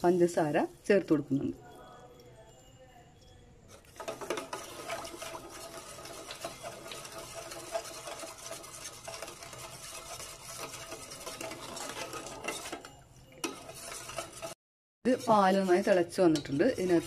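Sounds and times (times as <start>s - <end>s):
metal spoon stirring in saucepan: 0.0s - 17.0s.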